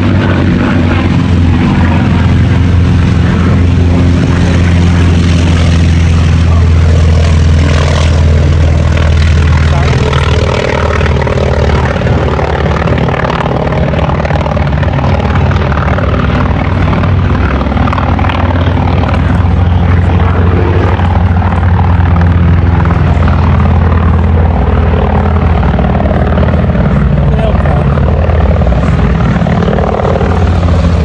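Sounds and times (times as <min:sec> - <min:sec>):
aircraft engine running: 0:00.0 - 0:31.0.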